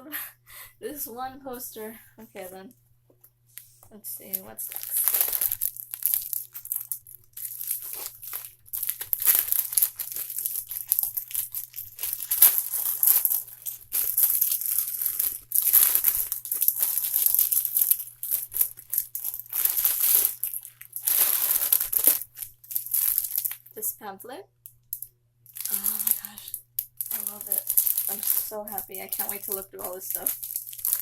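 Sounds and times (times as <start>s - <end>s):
faint electrical hum: 0.0s - 31.0s
packaging crinkling and rustling: 4.2s - 23.7s, 25.5s - 31.0s.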